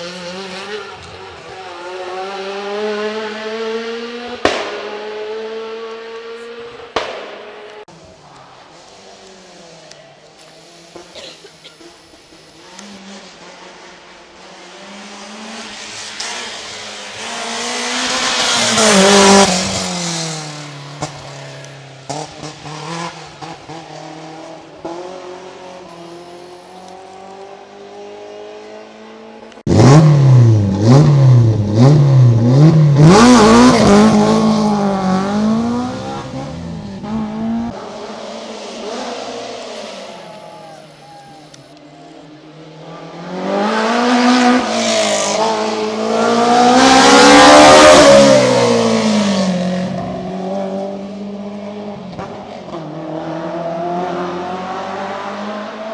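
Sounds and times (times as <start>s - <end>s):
car engine revving: 0.0s - 7.9s, 12.4s - 40.6s, 42.4s - 55.9s
rally car passing: 0.0s - 11.1s, 12.0s - 41.4s, 42.1s - 55.9s.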